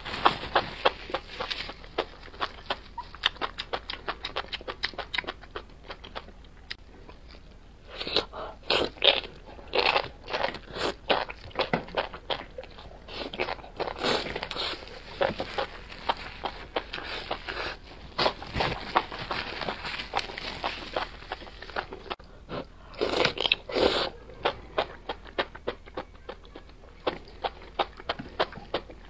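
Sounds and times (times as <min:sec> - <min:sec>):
crunchy wet chewing: 0:00.0 - 0:29.0.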